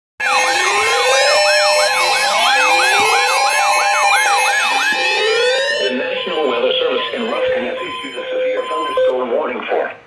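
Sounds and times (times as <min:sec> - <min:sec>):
emergency vehicle sirens: 0:00.2 - 0:10.0.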